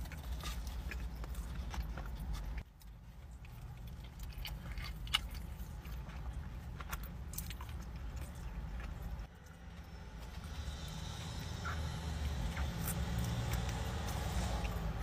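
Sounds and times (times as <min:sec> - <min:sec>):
low steady hum: 0:00.0 - 0:15.0
person chewing food: 0:00.0 - 0:15.0.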